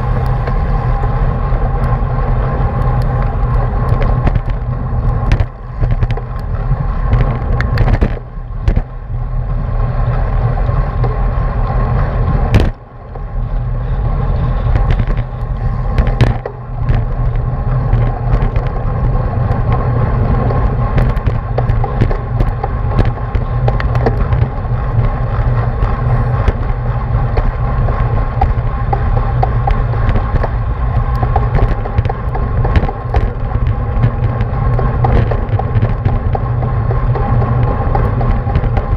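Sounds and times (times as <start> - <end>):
road and tyre rumble: 0.0 - 38.9
wind buffeting microphone: 0.0 - 38.9.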